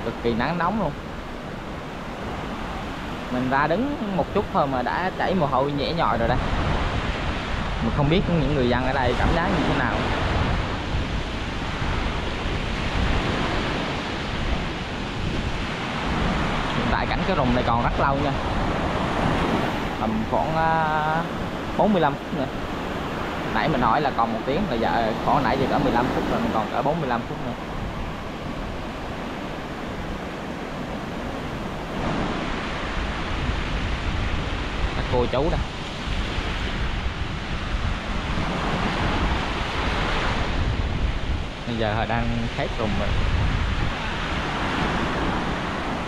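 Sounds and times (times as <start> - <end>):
sea waves washing on beach: 0.0 - 46.0
wind on microphone: 0.0 - 46.0.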